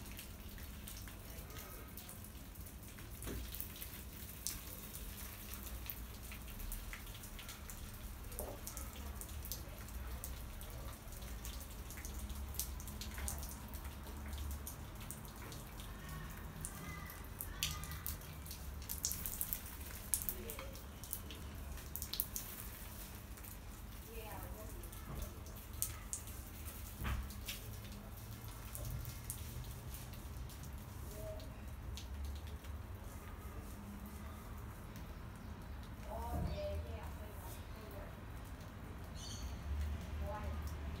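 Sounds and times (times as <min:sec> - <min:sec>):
water dripping on tiles: 0:00.0 - 0:41.0.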